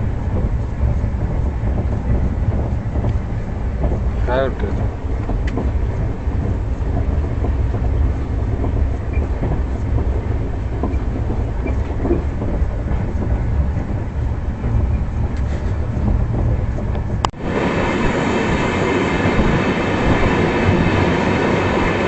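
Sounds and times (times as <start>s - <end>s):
train coaches rumbling: 0.0s - 22.0s.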